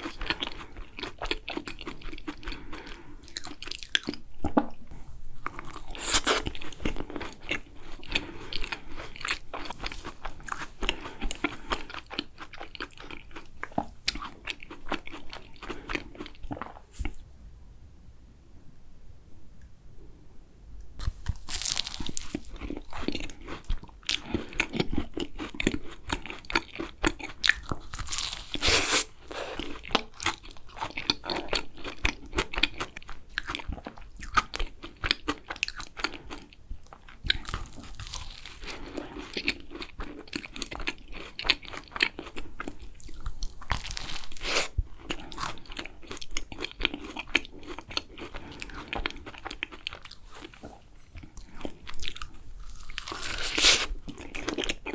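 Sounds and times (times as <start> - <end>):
crunching and chewing: 0.0 - 4.8, 5.4 - 17.2, 21.0 - 54.9.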